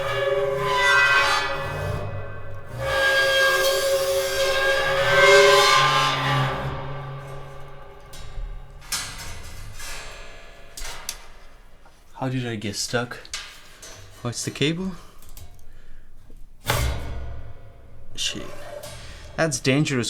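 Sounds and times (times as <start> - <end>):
bowed metal plate ringing: 0.0 - 12.0, 12.8 - 20.0
sharp clicks and knocks: 0.0 - 20.0.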